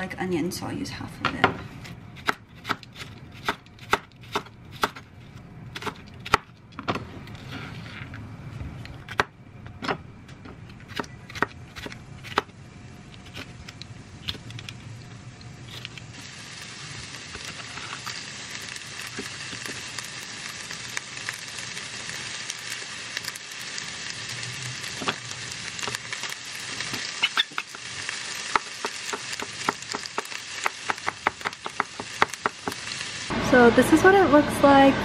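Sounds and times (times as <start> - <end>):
steady sizzling hiss: 0.0 - 34.9.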